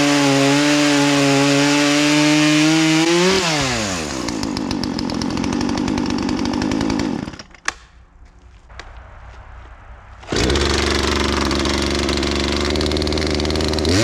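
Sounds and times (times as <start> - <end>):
chainsaw running: 0.0 - 7.6, 10.3 - 14.0.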